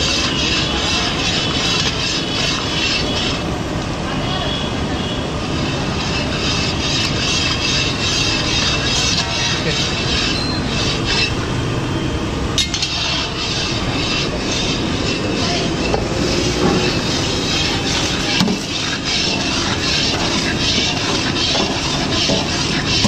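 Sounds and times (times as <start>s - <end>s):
syrup boiling and bubbling: 0.0s - 4.0s, 4.7s - 23.0s.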